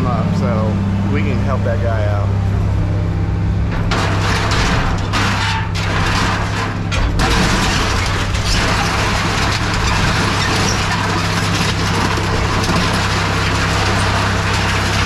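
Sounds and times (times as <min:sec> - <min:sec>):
heavy equipment engine running: 0:00.0 - 0:15.0.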